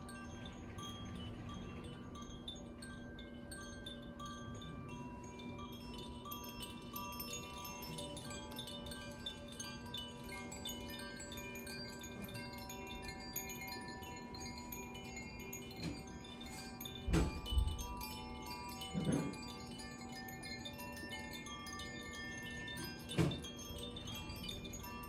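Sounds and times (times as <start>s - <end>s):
wind chimes ringing: 0.0s - 25.0s.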